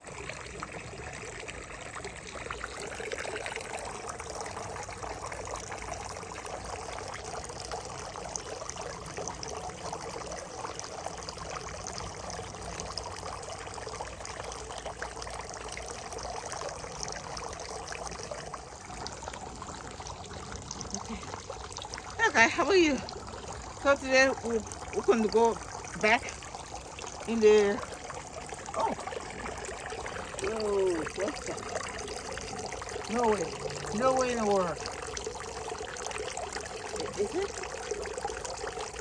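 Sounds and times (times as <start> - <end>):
water pouring and trickling: 0.0 - 39.0.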